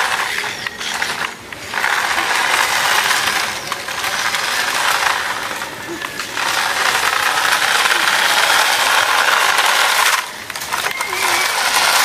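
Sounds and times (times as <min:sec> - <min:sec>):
toy car motor whirring: 0:00.0 - 0:12.0.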